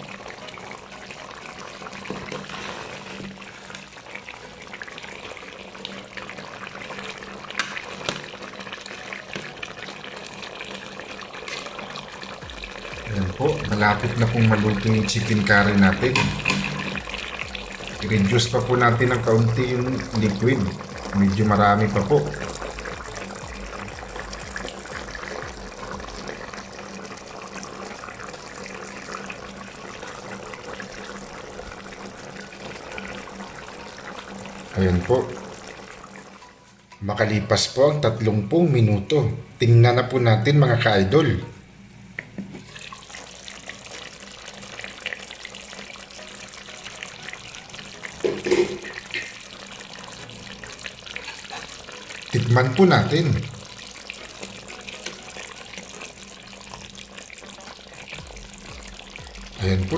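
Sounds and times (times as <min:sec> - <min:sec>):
curry simmering in a pot: 0:00.0 - 0:36.4, 0:42.7 - 0:59.8.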